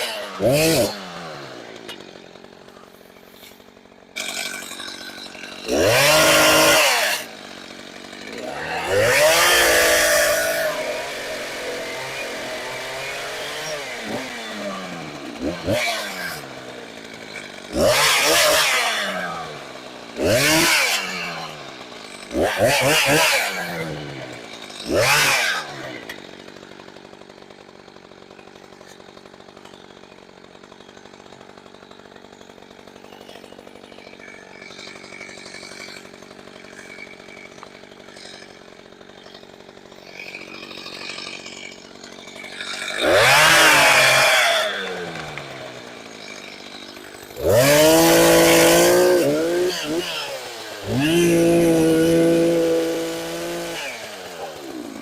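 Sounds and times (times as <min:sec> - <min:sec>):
chainsaw engine revving: 0:00.0 - 0:55.0
chainsaw idling: 0:00.0 - 0:55.0.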